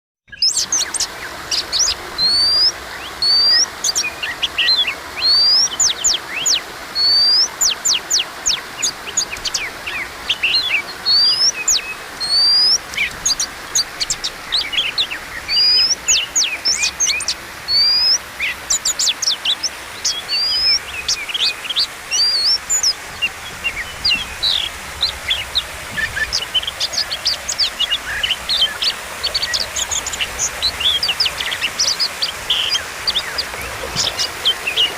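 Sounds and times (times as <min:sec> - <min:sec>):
bird singing whistles: 0:00.3 - 0:23.0, 0:26.0 - 0:33.4.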